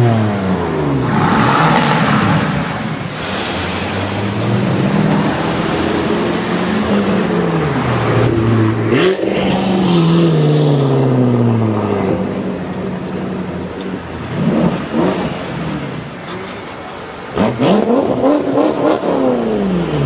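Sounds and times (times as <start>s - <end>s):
car engine revving: 0.0s - 16.1s.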